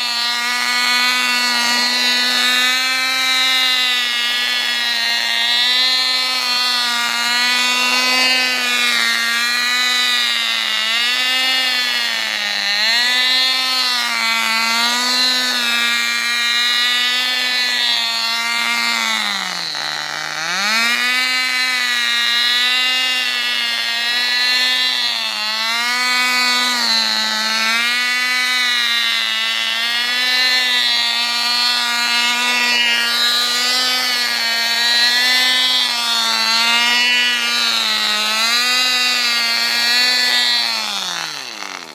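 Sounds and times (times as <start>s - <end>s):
model car engine high-pitched buzz: 0.0s - 41.9s.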